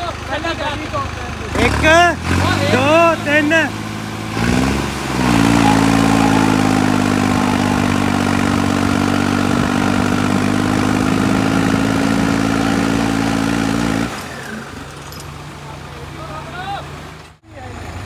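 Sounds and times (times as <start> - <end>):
vehicle engine revving under load: 1.3 - 18.0.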